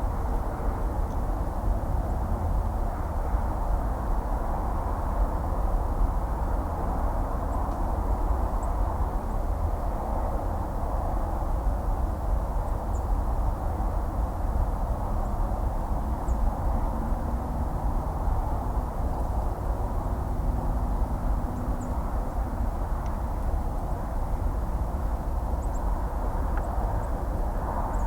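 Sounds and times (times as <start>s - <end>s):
distant highway traffic: 0.0s - 28.0s.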